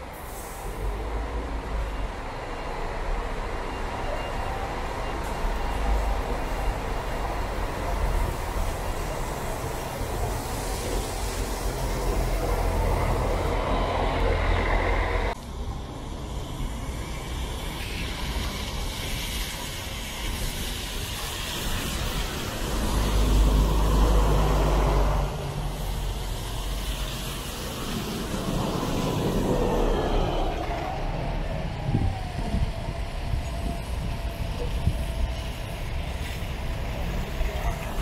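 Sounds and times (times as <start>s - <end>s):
bus engine running: 0.0s - 38.0s
street traffic: 0.0s - 38.0s
tyres hissing on wet pavement: 0.0s - 38.0s.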